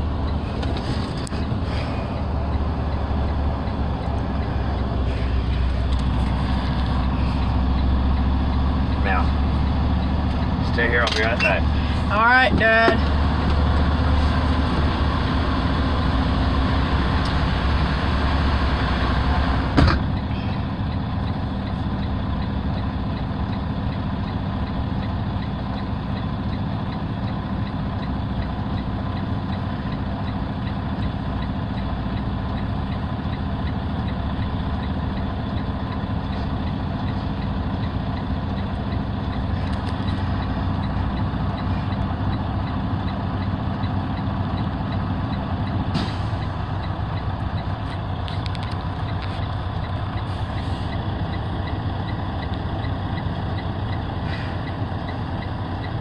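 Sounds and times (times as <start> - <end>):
truck diesel engine idling: 0.0 - 56.0.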